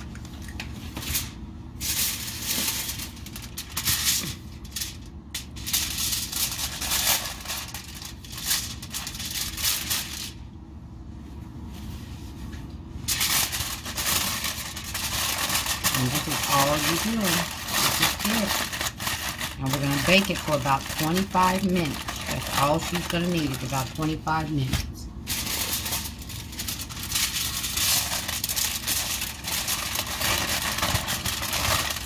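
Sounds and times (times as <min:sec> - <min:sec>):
aluminium foil crinkling: 0:00.0 - 0:10.5, 0:13.0 - 0:32.0.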